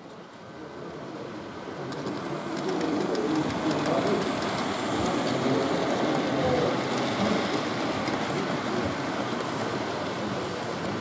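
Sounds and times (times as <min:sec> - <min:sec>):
hubbub of exhibition hall: 0:00.0 - 0:11.0
model train wheels rumbling: 0:00.0 - 0:11.0.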